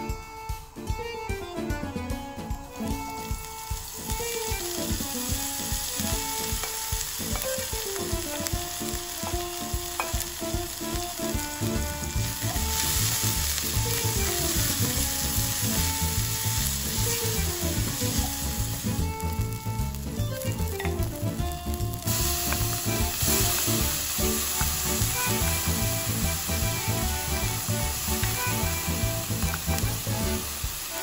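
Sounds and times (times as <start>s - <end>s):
onions sizzling in hot oil: 2.8s - 31.0s.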